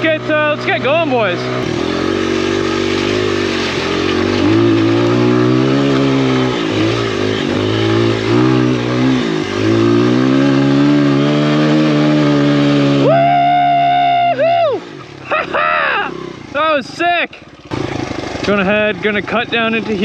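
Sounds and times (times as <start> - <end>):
dirt bike engine under throttle: 0.0 - 20.0.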